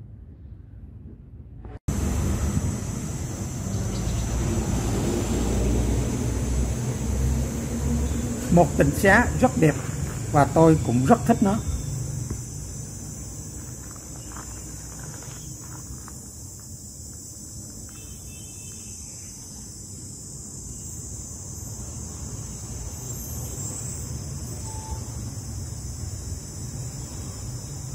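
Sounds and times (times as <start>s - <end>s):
insects chirring: 1.9s - 27.9s.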